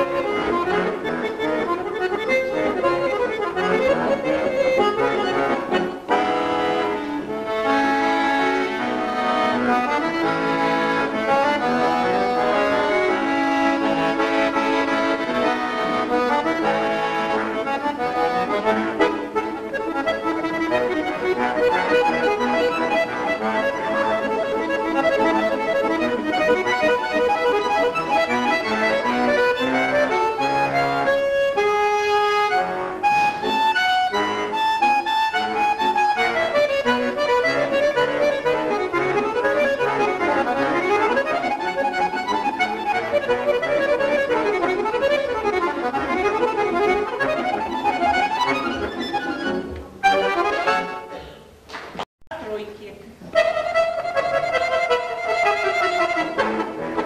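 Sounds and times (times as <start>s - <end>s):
button accordion playing: 0.0s - 51.3s, 53.3s - 57.0s.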